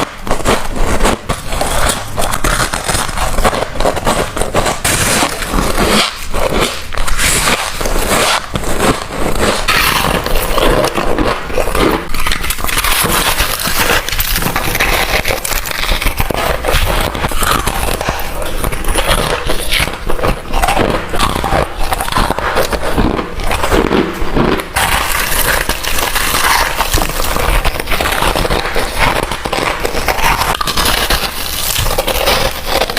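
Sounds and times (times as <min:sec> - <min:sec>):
crunching frost between teeth: 0:00.0 - 0:32.9.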